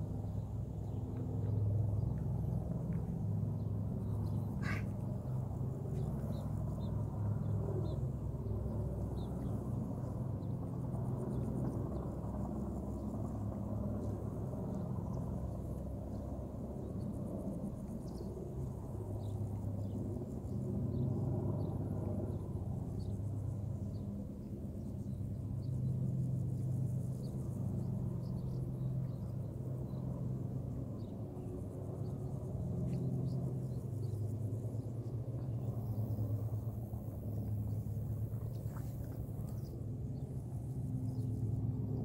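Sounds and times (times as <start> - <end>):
helicopter and plane drone overhead: 0.0 - 42.0.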